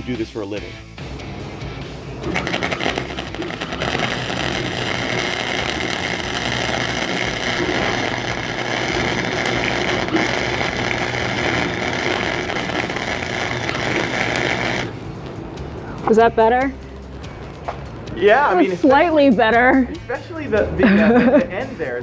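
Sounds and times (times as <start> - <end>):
welding arc crackling: 1.1 - 19.7.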